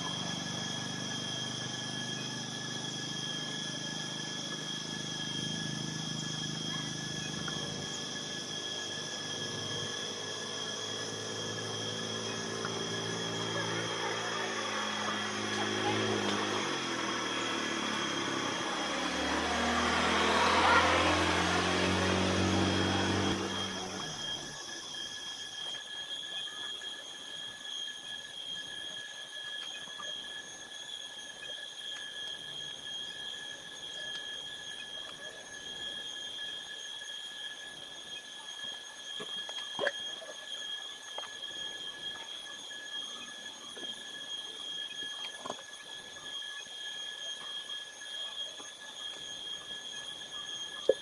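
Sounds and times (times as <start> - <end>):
high-pitched whine: 0.0 - 51.0.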